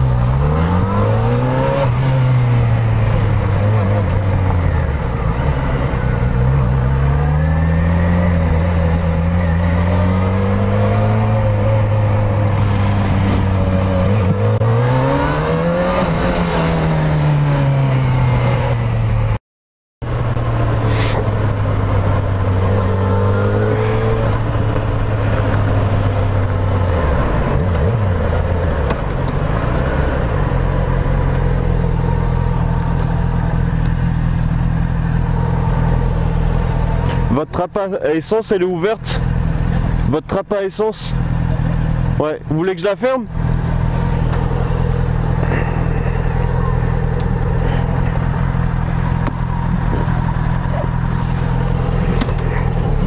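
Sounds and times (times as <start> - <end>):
motorcycle engine revving: 0.0 - 19.4, 20.5 - 37.4, 42.8 - 53.0
wind and road noise: 0.0 - 19.4, 20.0 - 53.0.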